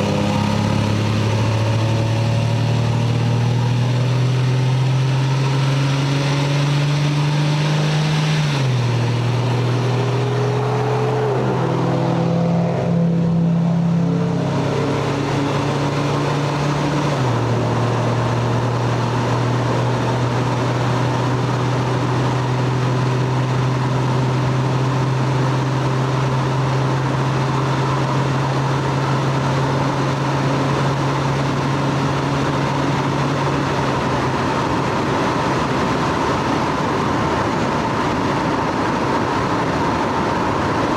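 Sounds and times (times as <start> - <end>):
car engine and exhaust running: 0.0 - 40.9.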